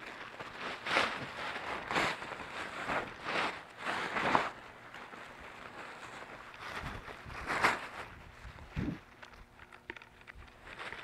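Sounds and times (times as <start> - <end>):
plastic tarp rustling: 0.0 - 9.6, 10.3 - 11.0.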